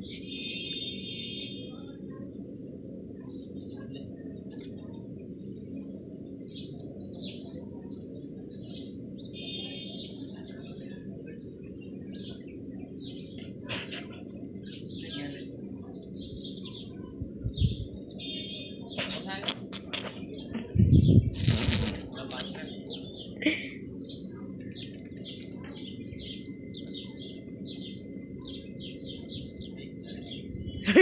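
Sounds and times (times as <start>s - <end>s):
low background hum: 0.0s - 31.0s
small birds chirping: 0.0s - 31.0s.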